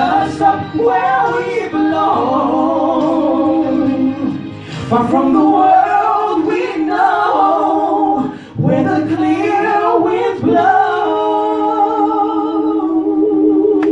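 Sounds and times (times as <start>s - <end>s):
man and woman singing duet: 0.0s - 13.9s.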